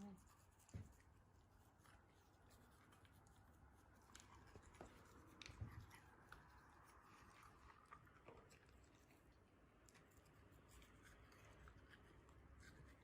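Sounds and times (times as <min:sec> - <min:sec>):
toothbrush scrubbing teeth: 0:00.0 - 0:13.0.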